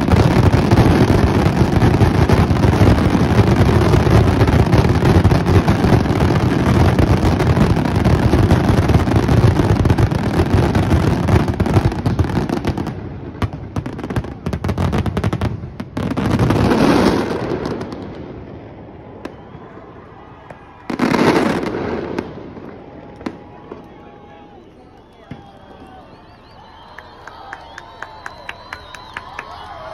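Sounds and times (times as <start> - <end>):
fireworks bangs and crackle: 0.0 - 29.9.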